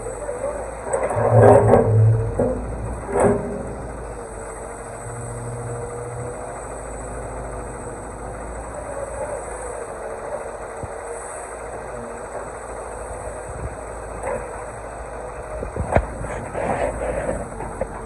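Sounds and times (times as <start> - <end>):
diesel engine running: 0.0 - 18.0
wavering whine: 0.0 - 18.0.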